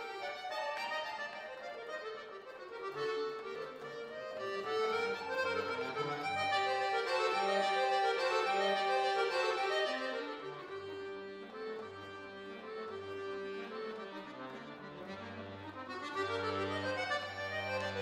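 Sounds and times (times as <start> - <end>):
accordion playing classical music: 0.0 - 18.0.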